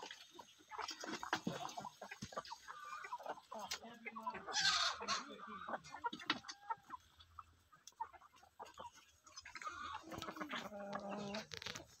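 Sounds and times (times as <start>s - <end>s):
chickens clucking: 0.0s - 12.0s
chickens scratching: 0.0s - 12.0s.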